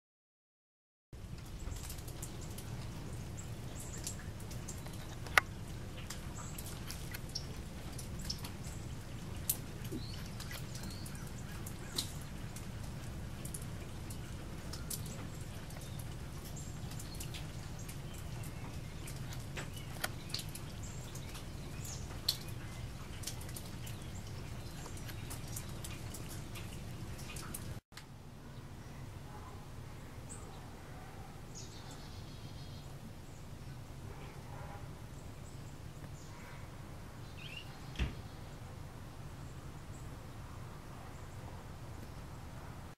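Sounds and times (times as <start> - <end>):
small birds chipping and chirping: 1.2 - 27.8, 30.0 - 34.5, 35.1 - 40.2.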